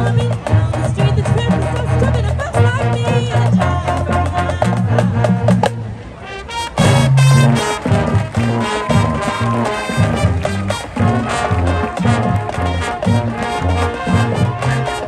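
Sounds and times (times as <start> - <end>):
marching band playing: 2.8 - 15.0.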